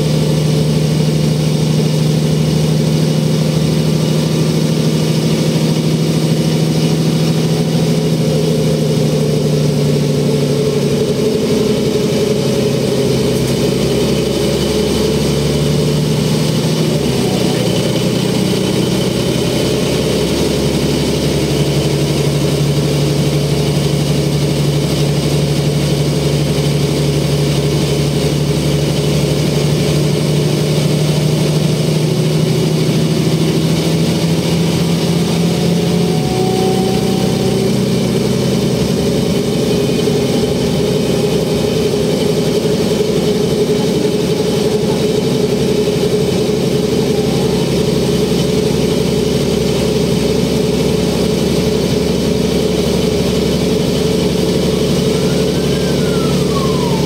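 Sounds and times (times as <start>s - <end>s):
bus engine drone with whine: 0.0s - 57.0s.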